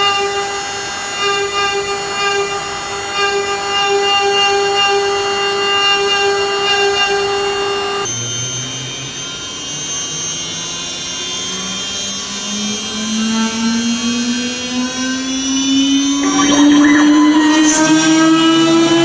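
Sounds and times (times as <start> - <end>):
machine whine rising in pitch: 0.0 - 19.0.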